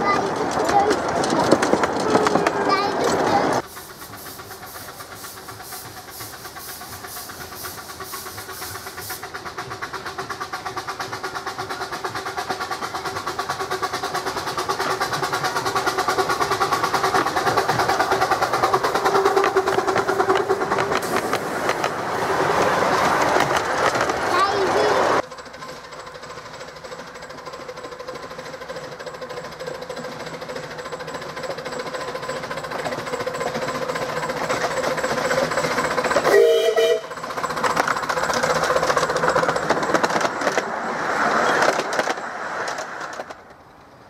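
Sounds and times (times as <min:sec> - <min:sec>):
steam locomotive exhaust beats: 0:00.0 - 0:44.0
wheels clattering on track: 0:00.0 - 0:44.0.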